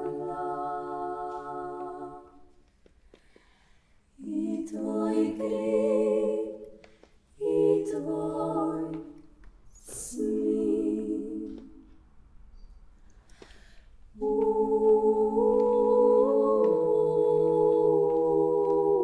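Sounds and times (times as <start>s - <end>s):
women singing in harmony: 0.0s - 2.6s, 4.2s - 12.0s, 14.1s - 19.0s.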